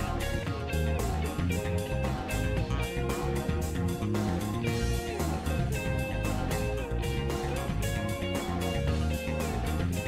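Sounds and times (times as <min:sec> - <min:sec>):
guitar with bent notes: 0:00.0 - 0:10.0
steady drum beat: 0:00.0 - 0:10.0.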